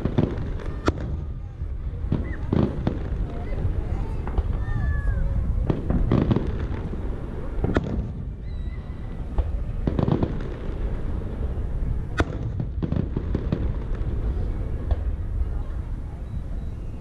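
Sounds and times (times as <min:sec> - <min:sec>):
fireworks crackles: 0:00.0 - 0:17.0
steady low rumble: 0:00.0 - 0:17.0.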